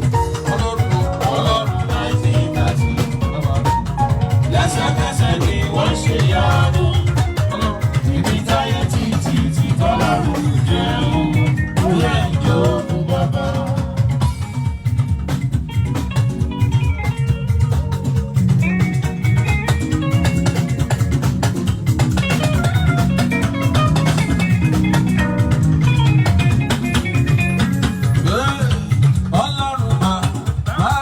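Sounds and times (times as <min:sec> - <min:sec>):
plucked guitar lines: 0:00.0 - 0:30.4
bass guitar: 0:00.0 - 0:31.0
steady drum beat: 0:00.0 - 0:31.0.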